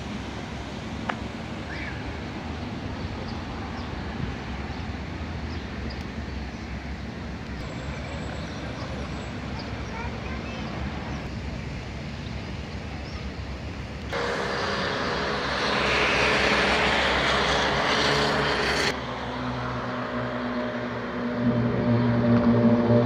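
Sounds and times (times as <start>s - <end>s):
cars driving on road: 0.0s - 23.0s
loud road and engine noise: 0.0s - 23.0s.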